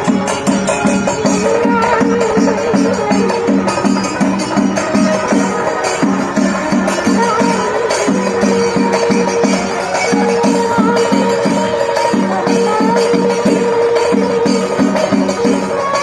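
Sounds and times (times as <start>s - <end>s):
music with fast percussion beat: 0.0s - 16.0s.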